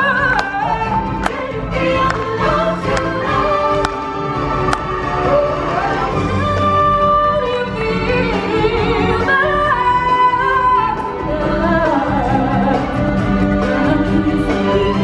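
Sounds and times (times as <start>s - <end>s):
band accompaniment: 0.0s - 15.0s.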